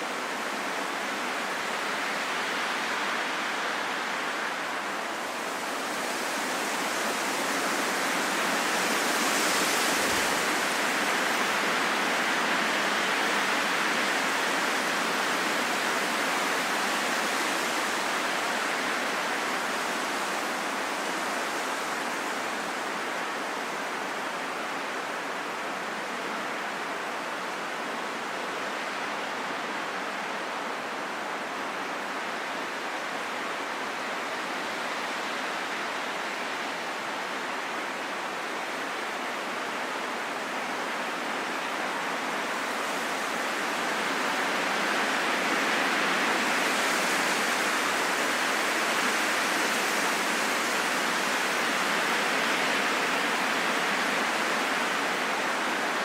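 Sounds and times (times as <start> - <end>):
rain falling in a forest: 0.0 - 56.0.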